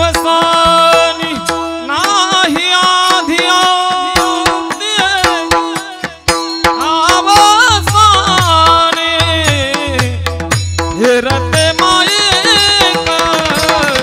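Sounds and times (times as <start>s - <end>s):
person singing devotional tune: 0.0s - 10.3s, 10.9s - 14.0s
hand drum strikes: 0.0s - 14.0s.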